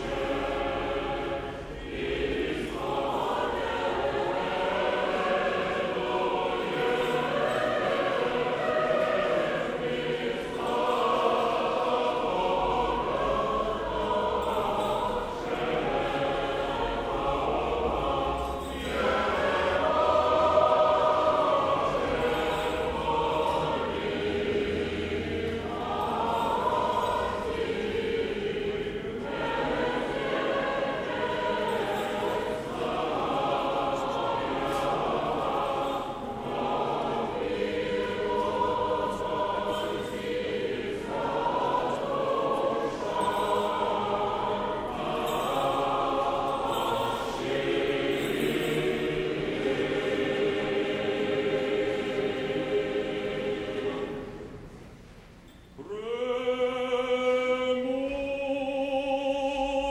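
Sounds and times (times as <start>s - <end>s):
chant on long held notes: 0.0s - 54.7s, 55.8s - 59.9s
choir singing a hymn unaccompanied: 0.0s - 54.9s, 55.8s - 59.9s.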